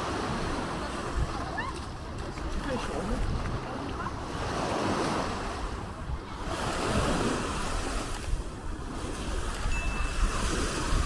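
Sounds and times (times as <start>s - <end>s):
small waves breaking on sand: 0.0s - 11.0s
wind buffeting microphone: 0.0s - 11.0s.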